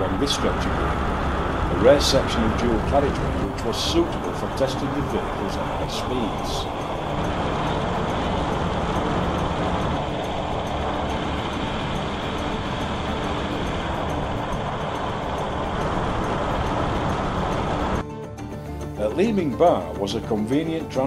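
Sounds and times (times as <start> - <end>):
car engine running: 0.0 - 18.0
wind and road noise: 0.0 - 18.9.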